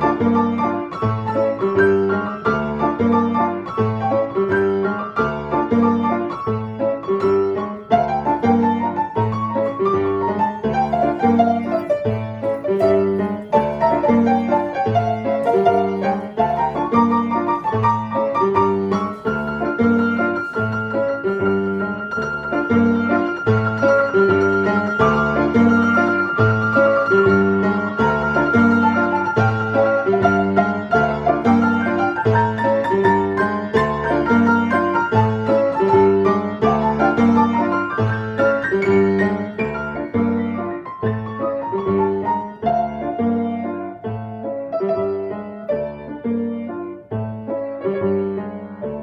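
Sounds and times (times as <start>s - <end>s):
acoustic piano duet: 0.0s - 49.0s.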